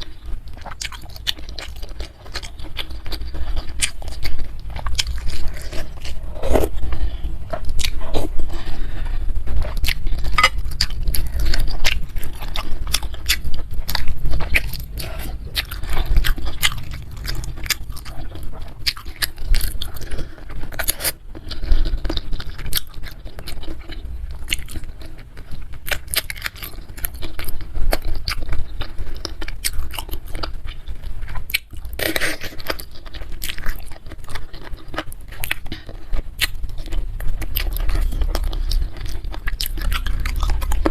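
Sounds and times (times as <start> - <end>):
close chewing and biting: 0.0 - 40.9.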